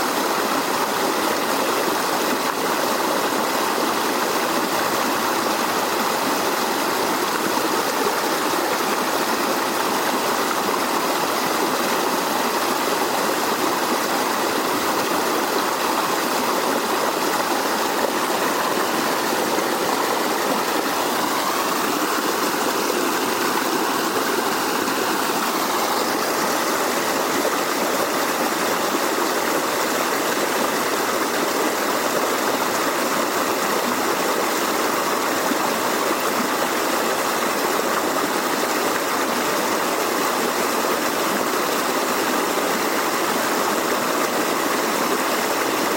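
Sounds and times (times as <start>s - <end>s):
water rushing over rocks: 0.0s - 45.9s.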